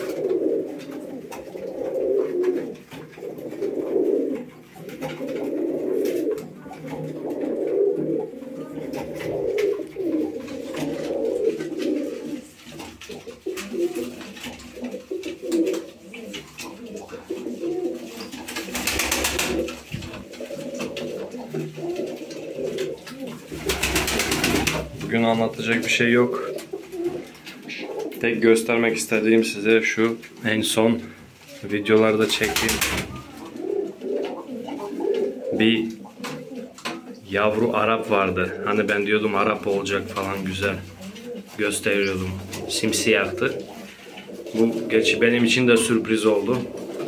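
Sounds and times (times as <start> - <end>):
beaks pecking grain: 0.0 - 29.3, 31.4 - 47.0
pigeons cooing: 0.0 - 47.0.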